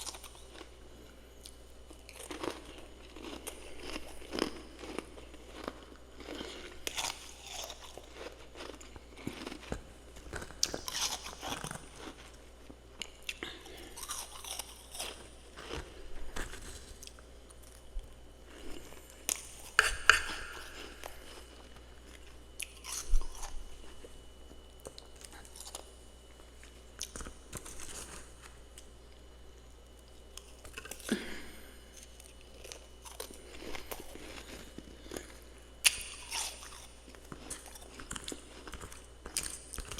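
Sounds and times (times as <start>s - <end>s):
chewing and crunching frost: 0.0s - 39.9s.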